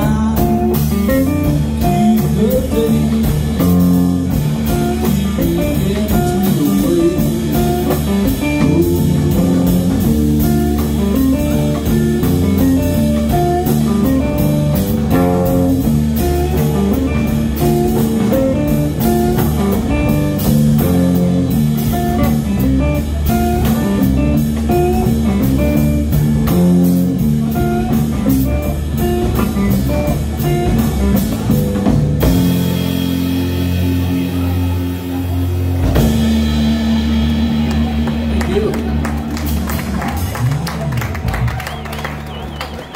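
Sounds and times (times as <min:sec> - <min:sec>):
blues-rock band playing: 0:00.0 - 0:42.9
drum kit: 0:00.0 - 0:42.9.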